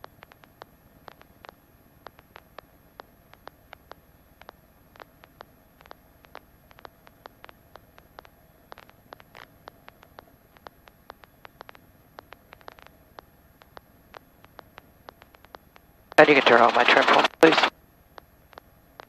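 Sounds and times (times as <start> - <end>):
faint radio hiss: 0.0 - 19.0
sharp clicks and crackles: 0.0 - 19.0.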